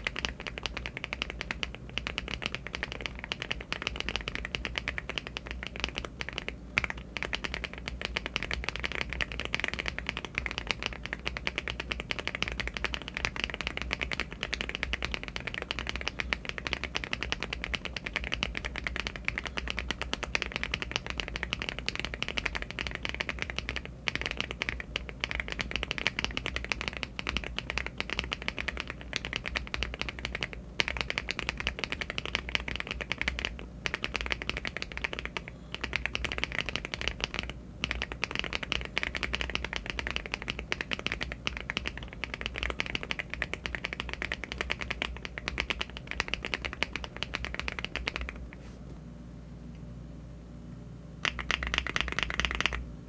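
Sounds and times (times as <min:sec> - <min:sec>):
mechanical keyboard typing: 0:00.0 - 0:48.4, 0:51.2 - 0:52.8.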